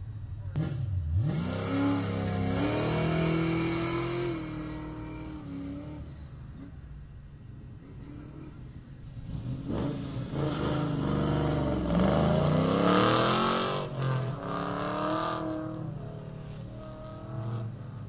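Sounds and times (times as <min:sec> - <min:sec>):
car engine revving: 0:00.0 - 0:06.8, 0:07.8 - 0:18.0.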